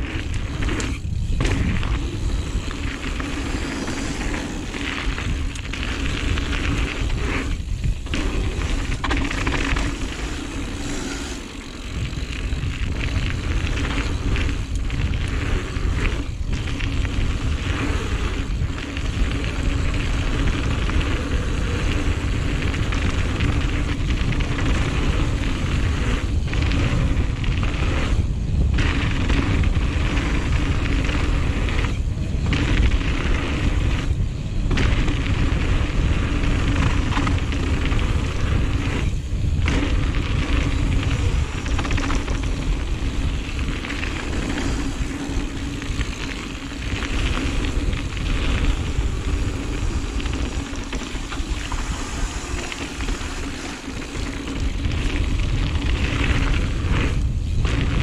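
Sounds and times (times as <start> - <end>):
bike tyres rolling on dirt: 0.0 - 58.0
wind rushing over microphone: 0.0 - 58.0.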